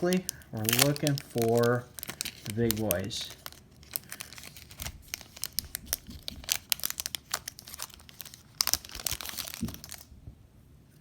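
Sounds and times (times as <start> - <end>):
wrapper tearing and crinkling: 0.0 - 10.1.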